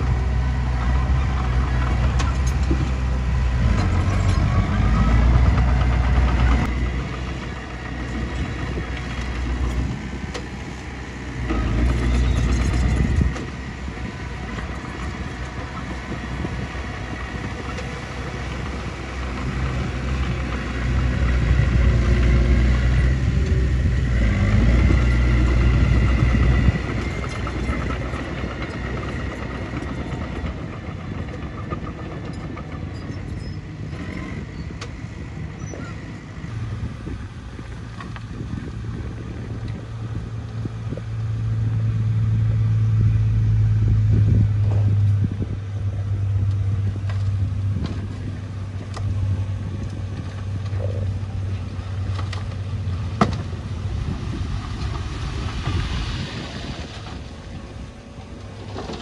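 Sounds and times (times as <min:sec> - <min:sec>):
bulldozer engine running: 0:00.0 - 0:59.0
dump truck engine droning: 0:00.0 - 0:59.0.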